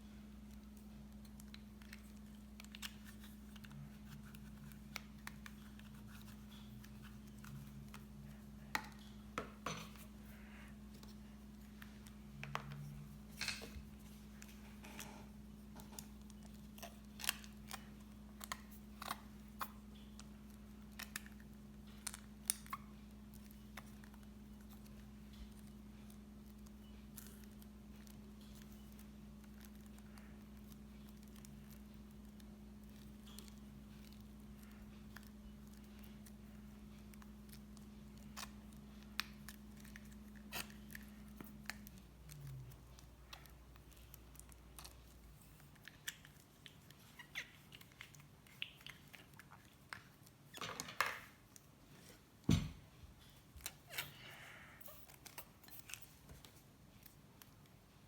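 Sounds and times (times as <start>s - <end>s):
steady low hum: 0.0s - 47.1s.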